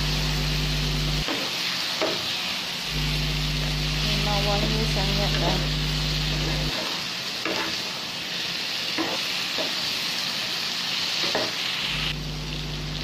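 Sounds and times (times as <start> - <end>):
paste sizzling in a wok: 0.0 - 13.0.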